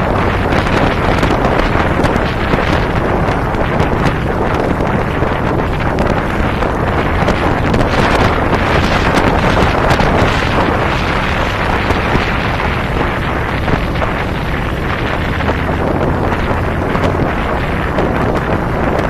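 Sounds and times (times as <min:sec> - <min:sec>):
motorcycle engine rumble: 0:00.0 - 0:19.0
road noise: 0:00.0 - 0:19.0
wind buffeting microphone: 0:00.0 - 0:19.0.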